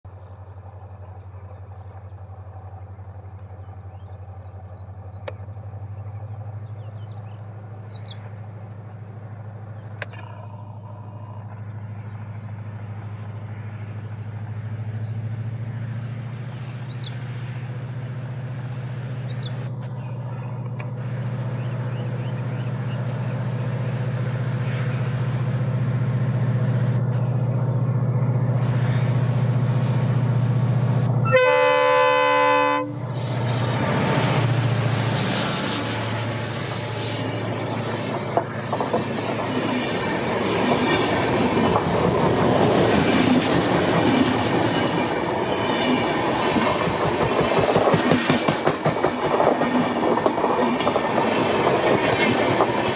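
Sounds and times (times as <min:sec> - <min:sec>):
diesel locomotive engine drone: 0:00.0 - 0:52.9.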